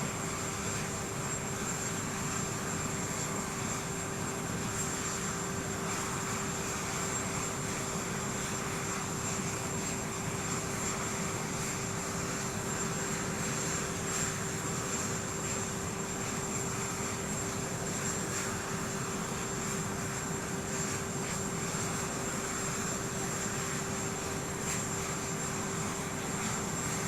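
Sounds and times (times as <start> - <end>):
aircraft engine rushing: 0.0 - 27.0.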